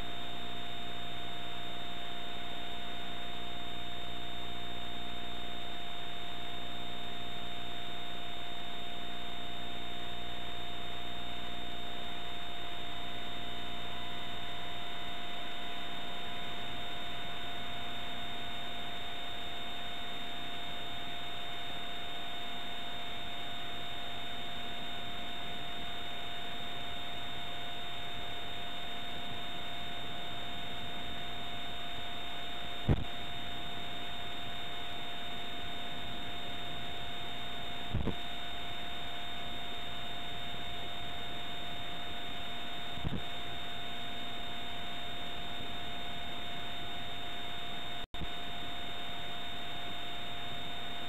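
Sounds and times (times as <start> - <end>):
electrical hum: 0.0 - 51.0.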